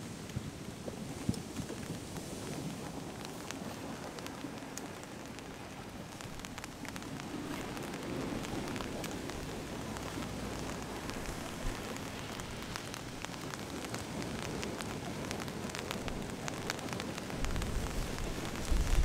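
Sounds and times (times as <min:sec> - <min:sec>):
rain drops ticking on a surface: 0:00.0 - 0:19.0.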